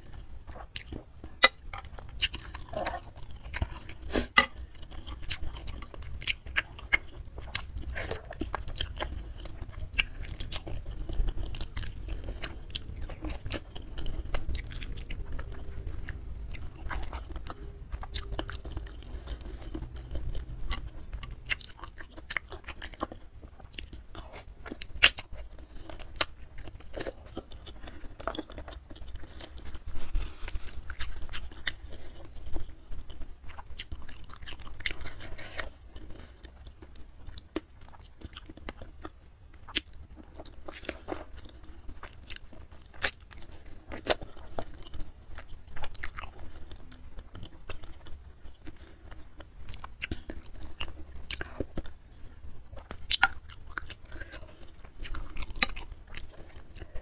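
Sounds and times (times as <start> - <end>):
close chewing and biting: 0.0 - 57.0.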